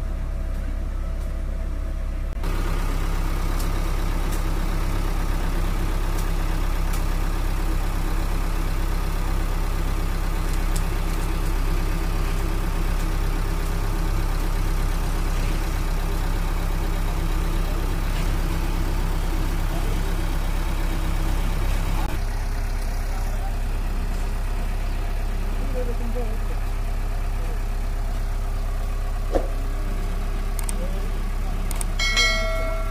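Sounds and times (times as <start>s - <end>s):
backhoe diesel engine running: 0.0s - 32.9s.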